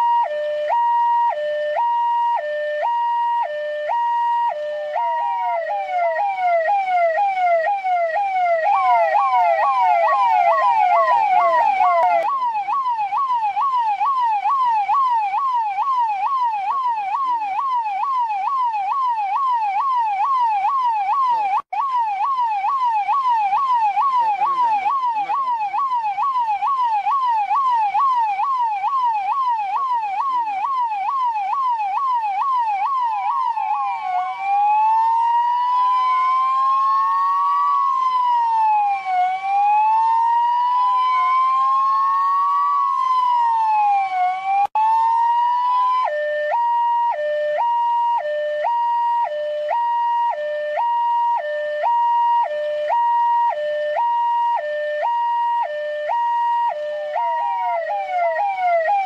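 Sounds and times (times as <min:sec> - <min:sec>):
electronic siren yelping: 0:00.0 - 0:59.0.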